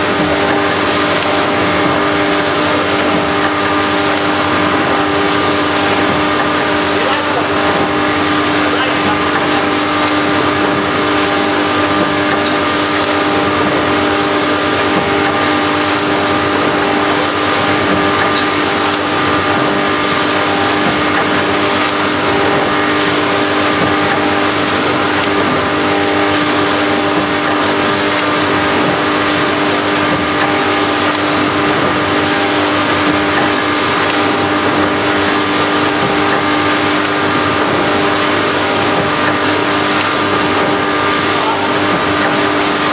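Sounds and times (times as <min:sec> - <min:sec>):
packing machine humming: 0:00.0 - 0:42.9.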